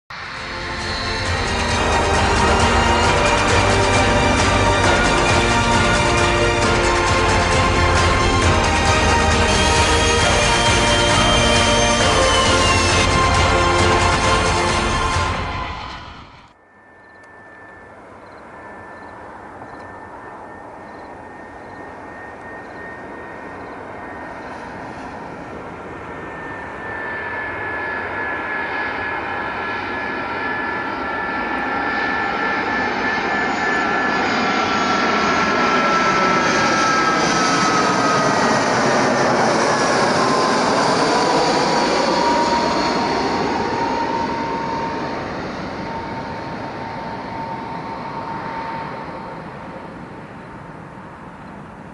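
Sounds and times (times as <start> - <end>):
jet airliner flying past: 0.1 - 51.9.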